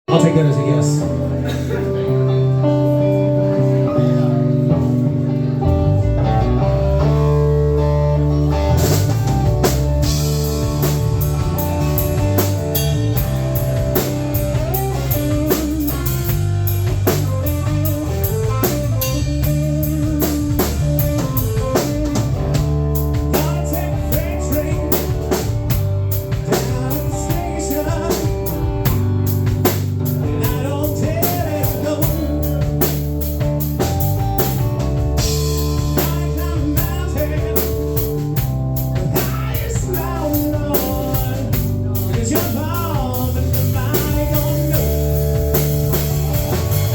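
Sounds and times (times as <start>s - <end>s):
electric guitar: 0.1s - 46.9s
live rock band playing blues-rock: 0.2s - 46.9s
drum kit steady beat: 8.6s - 46.9s.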